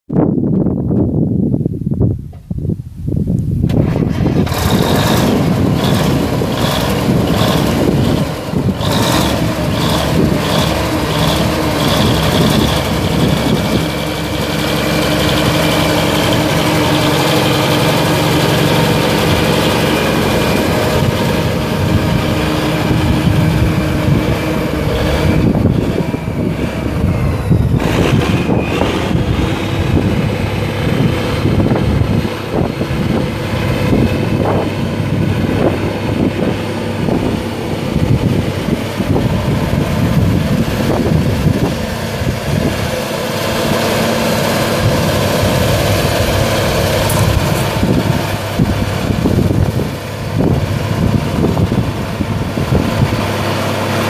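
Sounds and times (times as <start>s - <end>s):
tractor diesel engine idling: 3.7s - 54.0s.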